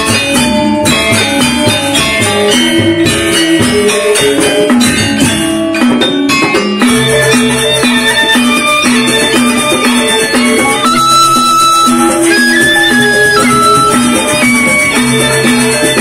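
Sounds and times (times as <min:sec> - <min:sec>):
barrel drum: 0:00.0 - 0:16.0
gamelan ensemble playing: 0:00.0 - 0:16.0.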